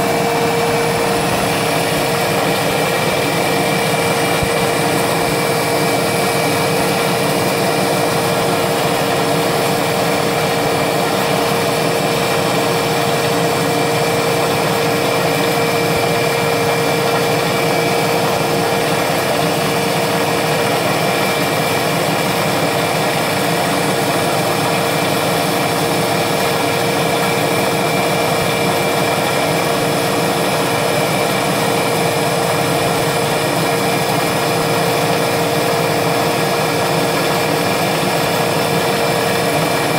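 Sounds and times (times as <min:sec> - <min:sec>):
milling machine spindle whirring: 0:00.0 - 0:39.9.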